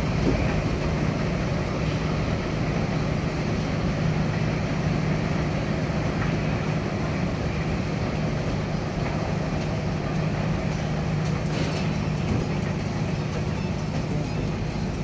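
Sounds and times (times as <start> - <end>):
city traffic rumble: 0.0 - 15.0
low mechanical hum: 0.0 - 15.0.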